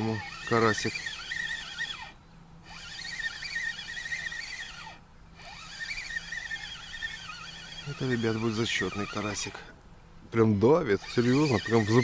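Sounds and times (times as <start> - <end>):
bird warbling: 0.0 - 9.7.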